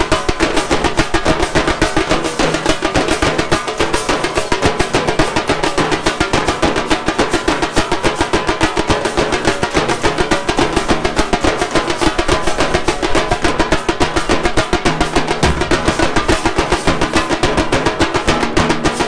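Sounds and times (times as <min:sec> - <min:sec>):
drums pounding fast rhythm: 0:00.0 - 0:19.0.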